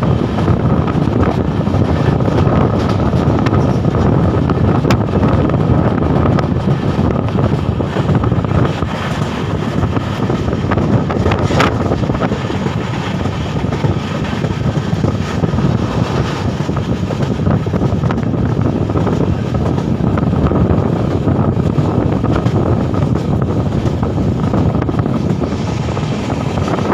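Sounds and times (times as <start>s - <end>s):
train running at speed: 0.0s - 26.9s
wind buffeting microphone: 0.0s - 26.9s.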